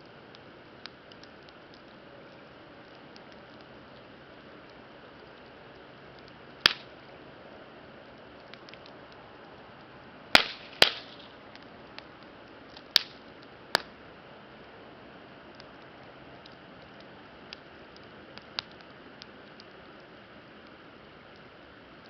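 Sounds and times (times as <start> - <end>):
burning wood popping: 0.0 - 22.0
campfire hissing and crackling: 0.0 - 22.0.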